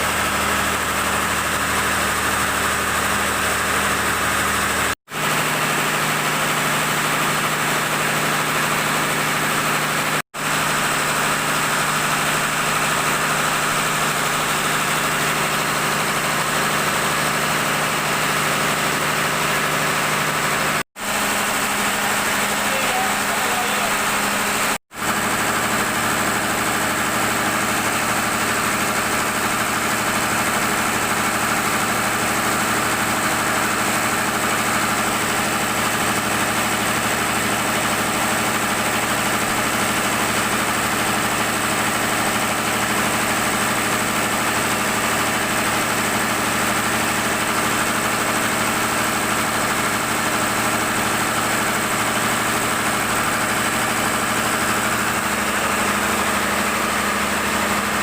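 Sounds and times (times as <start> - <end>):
generator engine running: 0.0 - 58.0.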